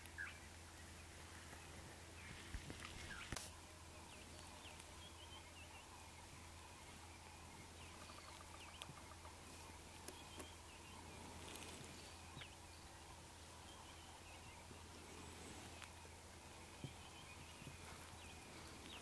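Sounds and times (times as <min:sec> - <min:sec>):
faint bird chirps: 0:00.0 - 0:19.0
low steady hum: 0:00.0 - 0:19.0.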